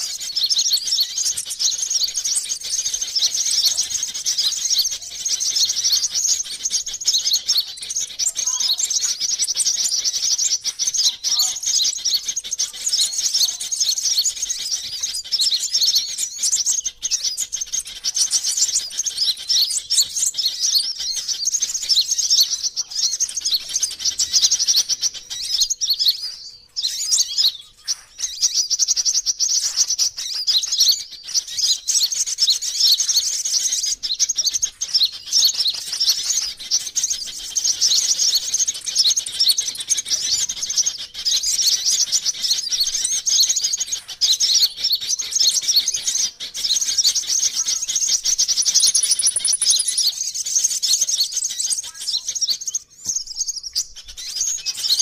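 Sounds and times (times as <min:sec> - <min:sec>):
sunbird chirps and trills: 0:00.0 - 0:55.0.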